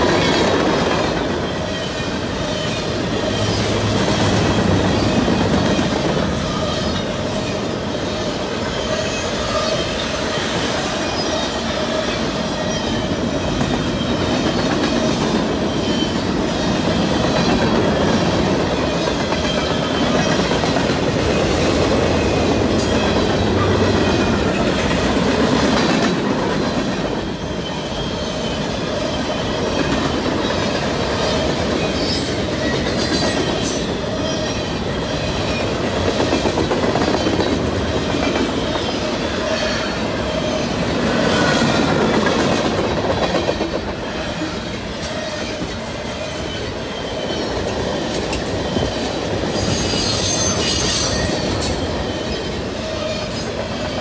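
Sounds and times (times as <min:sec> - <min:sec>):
freight cars rumbling on rails: 0:00.0 - 0:54.0.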